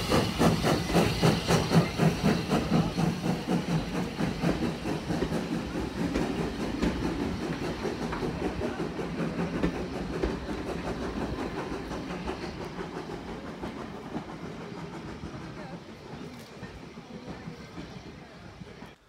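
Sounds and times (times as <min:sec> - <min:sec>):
train coaches rumbling: 0:00.0 - 0:19.0.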